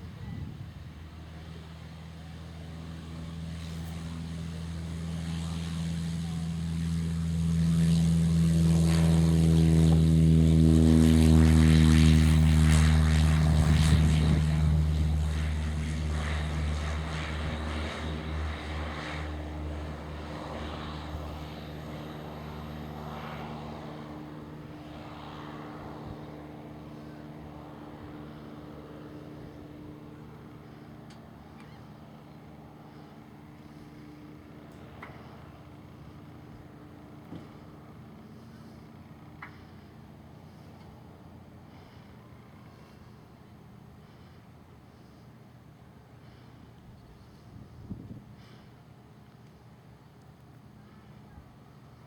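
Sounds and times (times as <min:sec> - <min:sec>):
propeller plane passing: 0:00.0 - 0:52.0.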